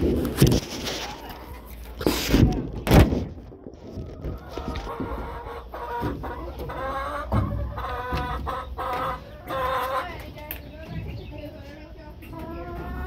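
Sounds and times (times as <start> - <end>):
hens clucking: 0.0 - 13.0
drawn-out hen calls: 0.6 - 13.0.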